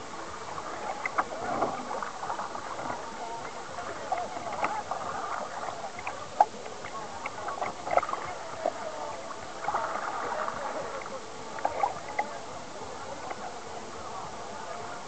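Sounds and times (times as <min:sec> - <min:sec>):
paddle knocking kayak hull: 0:00.0 - 0:14.8
distant chatter of voices: 0:00.0 - 0:15.0.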